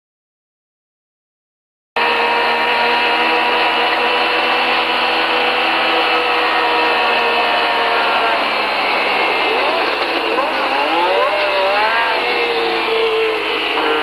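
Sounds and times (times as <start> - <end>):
racing car engine high revs: 2.0 - 14.0
wind and road noise: 2.7 - 14.0.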